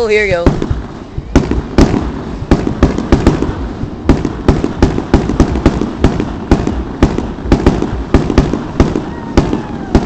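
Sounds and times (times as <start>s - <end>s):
fireworks bangs and crackling pops: 0.0s - 10.0s
low rumble: 0.0s - 10.0s.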